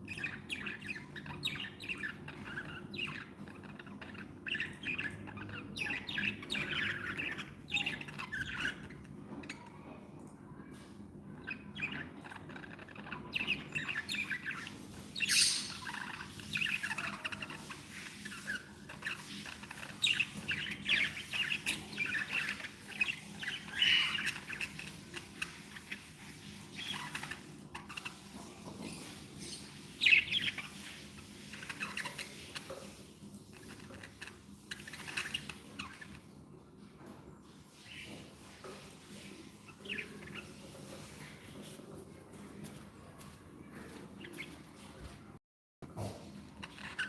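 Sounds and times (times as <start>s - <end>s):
budgerigars chirping and chattering: 0.0s - 45.2s, 46.2s - 47.0s.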